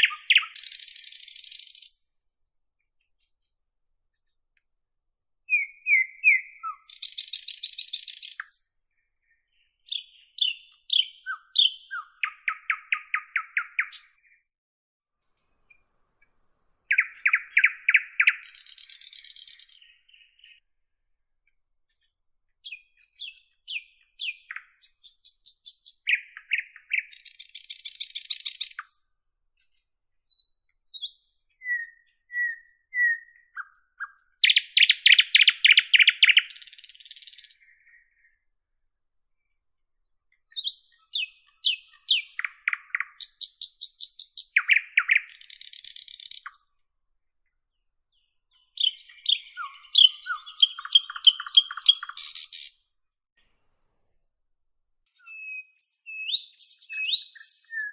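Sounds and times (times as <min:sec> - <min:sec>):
nightingale singing: 0:00.0 - 0:02.2, 0:04.2 - 0:14.4, 0:15.7 - 0:20.6, 0:21.7 - 0:29.1, 0:30.2 - 0:38.4, 0:39.8 - 0:46.9, 0:48.1 - 0:52.8, 0:55.1 - 0:57.9.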